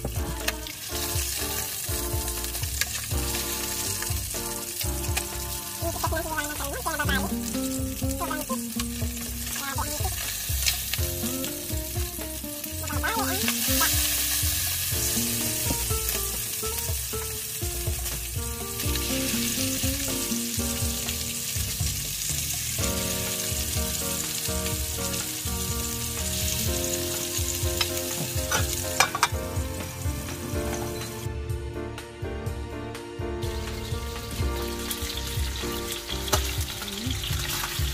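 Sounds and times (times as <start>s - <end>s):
fish sizzling in hot oil: 0.0s - 31.3s, 33.4s - 37.9s.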